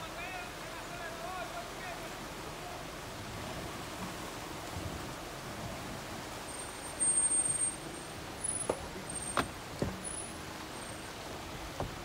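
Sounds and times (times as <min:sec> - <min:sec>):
rushing water: 0:00.0 - 0:12.0
vehicle noise: 0:02.1 - 0:12.0.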